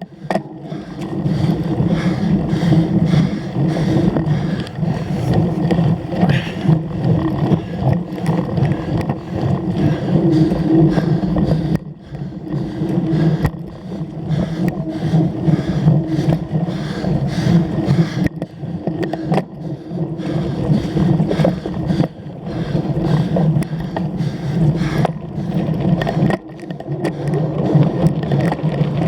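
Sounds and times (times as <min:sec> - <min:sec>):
tyres rumbling over rough ground: 0:00.0 - 0:29.0.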